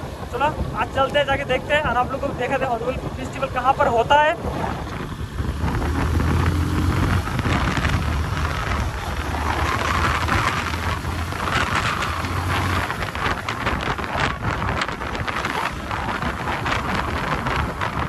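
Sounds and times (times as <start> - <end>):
wind rushing over microphone: 0.0 - 18.0
motorcycle engine humming: 3.0 - 18.0.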